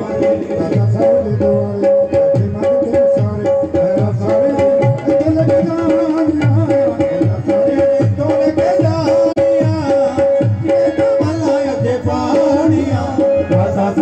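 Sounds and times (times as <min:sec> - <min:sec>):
hand drum beat: 0:00.0 - 0:14.0.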